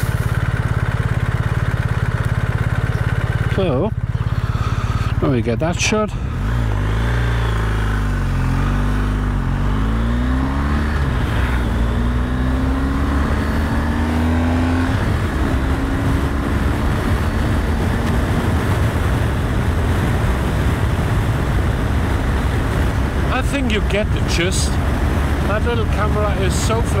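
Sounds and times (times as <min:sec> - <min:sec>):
motorcycle engine accelerating: 0:00.0 - 0:27.0
wind and road noise: 0:00.0 - 0:27.0.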